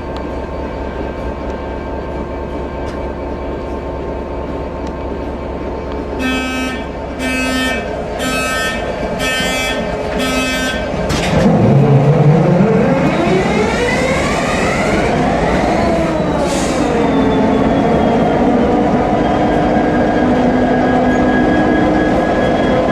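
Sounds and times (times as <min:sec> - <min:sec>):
train pulling away whining: 0:00.0 - 0:22.9.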